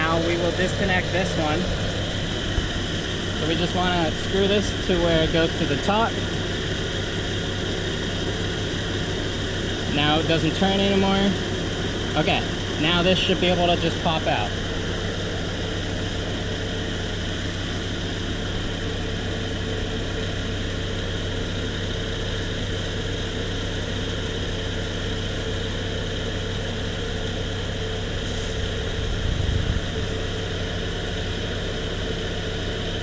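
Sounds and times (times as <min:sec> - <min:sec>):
ac compressor running: 0:00.0 - 0:33.0
car engine idling: 0:00.0 - 0:33.0.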